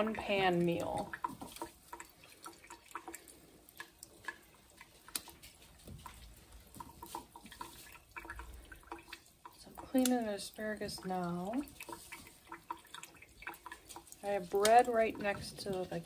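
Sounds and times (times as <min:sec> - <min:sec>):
water dripping in a sink: 0:00.0 - 0:16.0.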